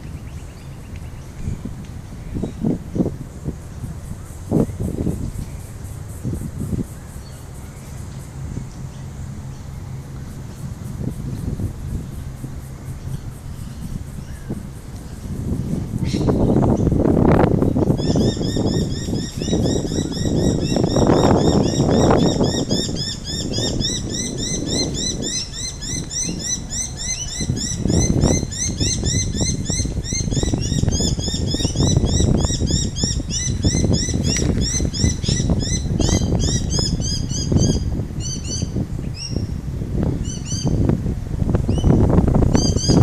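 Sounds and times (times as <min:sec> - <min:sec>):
flock of small birds chirping: 0:00.0 - 0:39.6, 0:41.7 - 0:43.0
low rumbling noise: 0:00.0 - 0:43.0.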